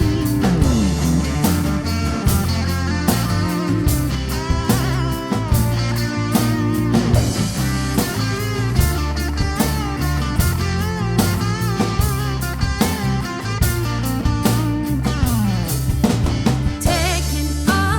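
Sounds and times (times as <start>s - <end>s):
electric guitar solo: 0.0s - 15.7s
bass: 0.0s - 17.9s
drum kit: 0.0s - 17.9s.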